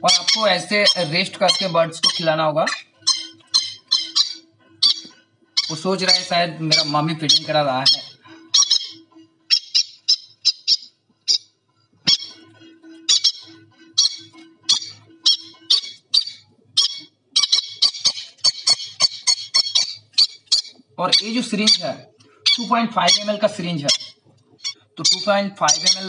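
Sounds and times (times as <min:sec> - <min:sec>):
parrot chick squawking: 0:00.0 - 0:26.0.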